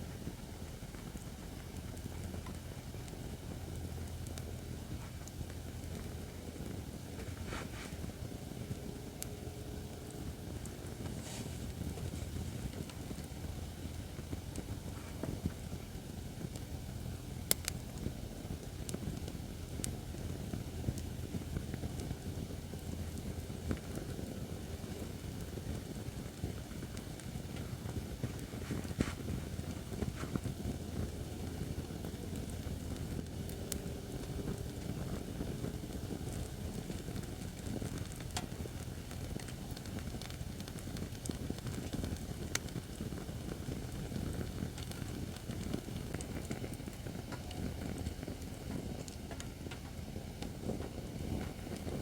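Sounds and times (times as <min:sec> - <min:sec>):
burning wood crackling and popping: 0:00.0 - 0:52.0
fire rumbling: 0:00.0 - 0:52.0.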